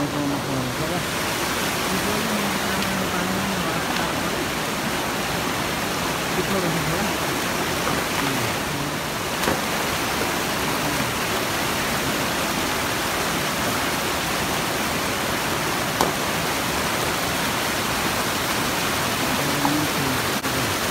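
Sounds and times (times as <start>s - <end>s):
mountain stream over rocks: 0.0s - 20.9s.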